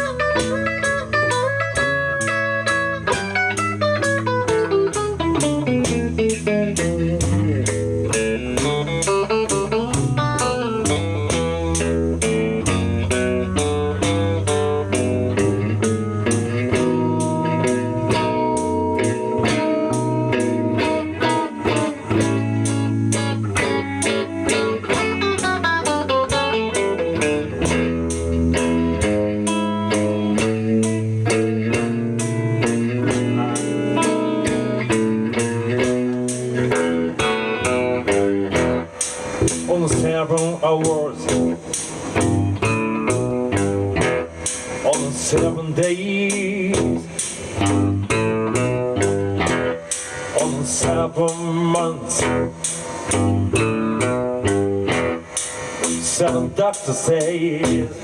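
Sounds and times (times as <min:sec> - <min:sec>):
bass line: 0:00.0 - 0:58.0
electric guitar lines: 0:00.0 - 0:58.0
steady drum beat: 0:00.0 - 0:58.0.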